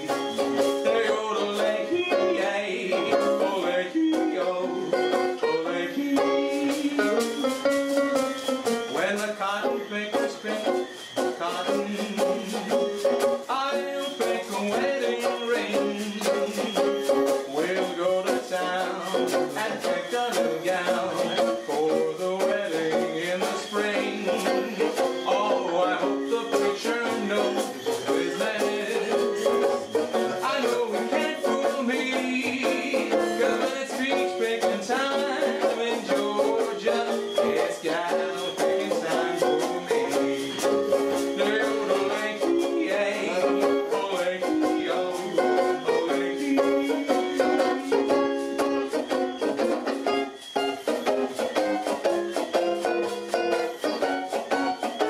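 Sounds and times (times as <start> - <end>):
banjo picking: 0.0 - 55.0.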